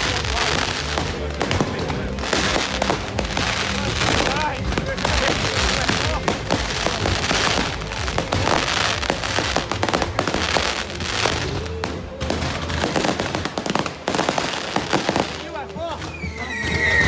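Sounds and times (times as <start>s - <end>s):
background music: 0.0s - 17.0s
fireworks crackling pops: 0.0s - 17.0s
fireworks hissing bursts: 0.0s - 17.0s.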